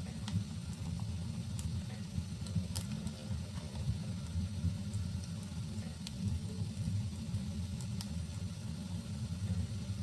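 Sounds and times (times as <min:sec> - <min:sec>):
fire crackles: 0:00.0 - 0:10.0
wood fire rumbling: 0:00.0 - 0:10.0.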